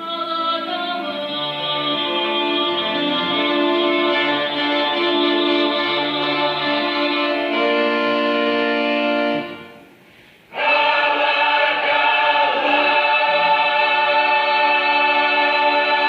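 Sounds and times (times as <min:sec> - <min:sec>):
held chords with choir voices: 0:00.0 - 0:16.0.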